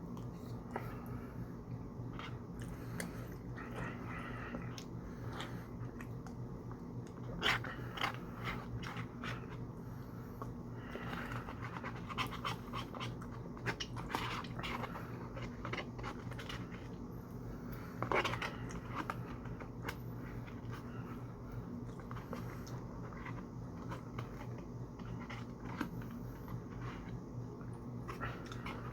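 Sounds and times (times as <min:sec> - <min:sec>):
steady low hum: 0:00.0 - 0:28.9
wet chewing: 0:00.1 - 0:17.0, 0:17.6 - 0:28.9.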